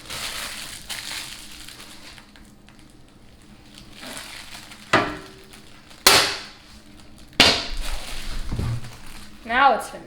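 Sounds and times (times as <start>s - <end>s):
plastic film crinkling: 0.0s - 9.5s.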